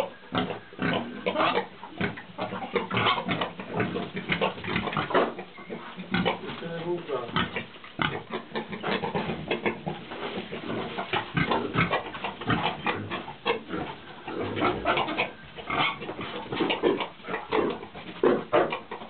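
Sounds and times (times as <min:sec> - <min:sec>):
pigs grunting: 0:00.0 - 0:19.0.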